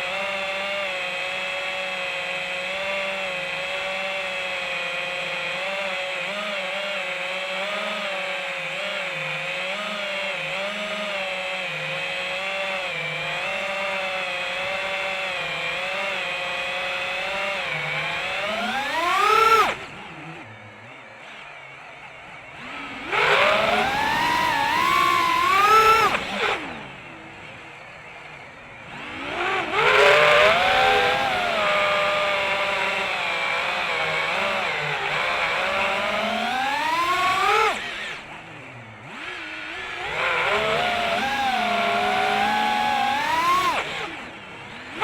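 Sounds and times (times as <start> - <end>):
quadcopter motors whining: 0.0 - 45.0.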